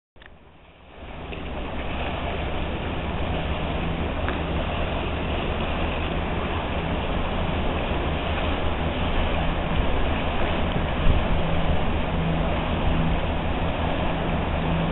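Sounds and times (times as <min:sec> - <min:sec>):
boat engine running: 0:00.2 - 0:14.9.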